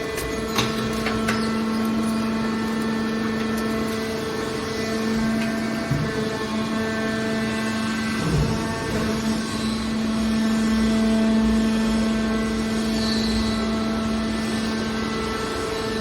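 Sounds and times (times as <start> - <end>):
hydraulic baler humming: 0.0 - 16.0.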